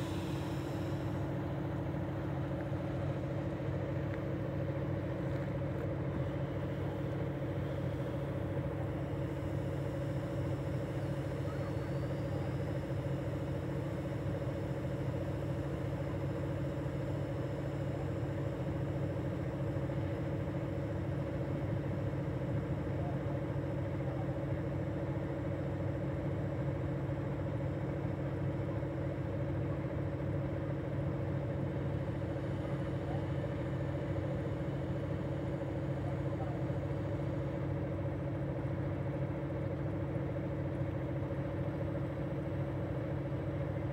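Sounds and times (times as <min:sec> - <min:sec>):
diesel locomotive engine idling: 0:00.0 - 0:43.9.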